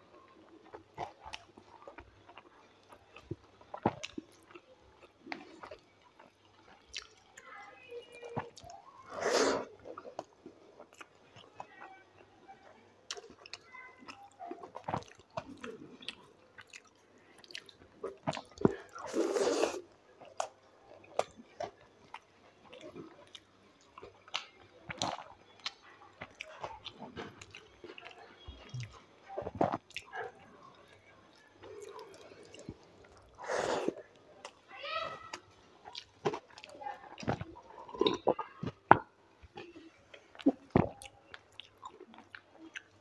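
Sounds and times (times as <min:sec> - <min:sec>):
wet chewing and smacking: 0:00.1 - 0:09.0, 0:09.7 - 0:19.4, 0:20.2 - 0:34.7, 0:35.3 - 0:43.0.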